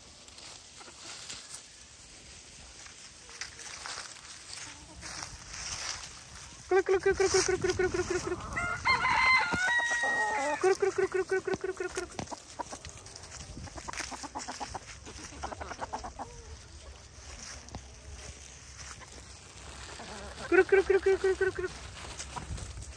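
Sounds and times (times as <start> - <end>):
chickens clucking and calling: 0.4 - 22.9.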